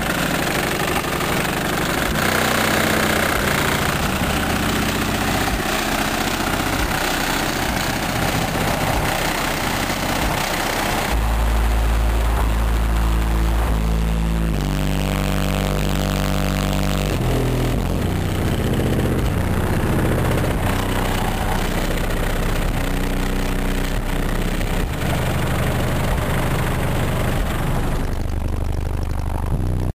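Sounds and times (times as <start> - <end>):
car subwoofers playing bass-heavy song: 0.0 - 29.9.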